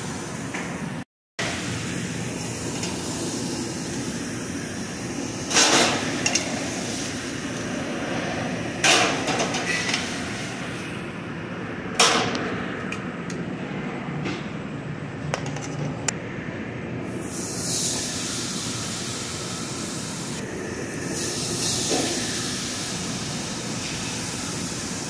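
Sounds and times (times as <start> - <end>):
grill hiss and ventilation hum: 0.0 - 25.0.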